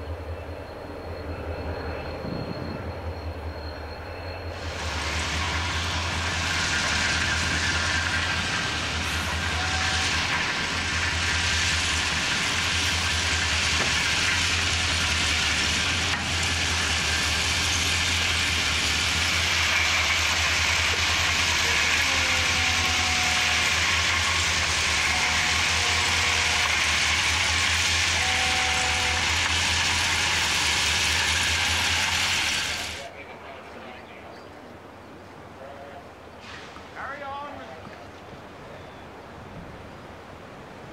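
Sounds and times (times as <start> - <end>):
low rumble of wagons: 0.0 - 40.9.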